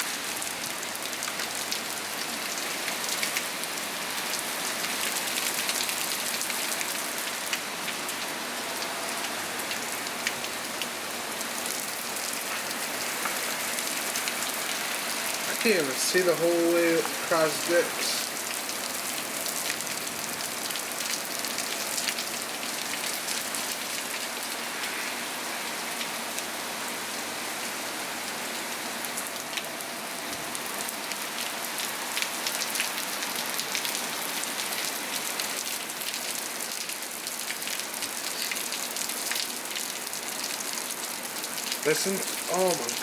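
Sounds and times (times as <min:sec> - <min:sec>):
heavy rain on hard surfaces: 0:00.0 - 0:43.0.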